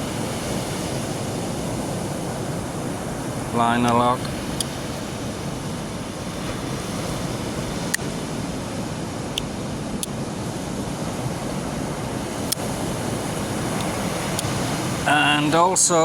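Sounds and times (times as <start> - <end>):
surf rushing: 0.0 - 16.0
wind on microphone: 0.0 - 16.0.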